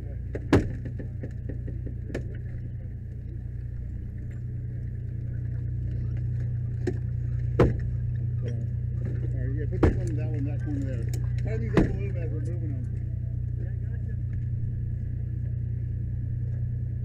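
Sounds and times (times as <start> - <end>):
engine drone with whine: 0.0 - 17.0.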